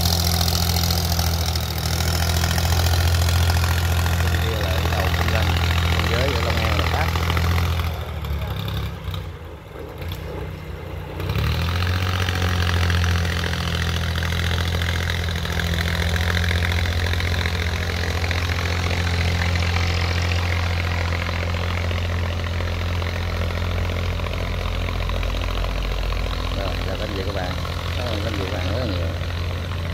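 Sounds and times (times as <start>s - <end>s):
boat engine running: 0.0s - 29.9s.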